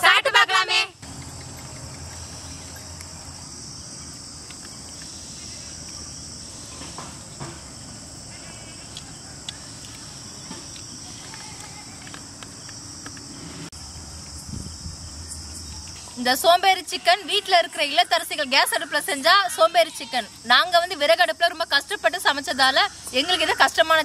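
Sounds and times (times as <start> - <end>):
insect chorus chirring: 0.0 - 24.0.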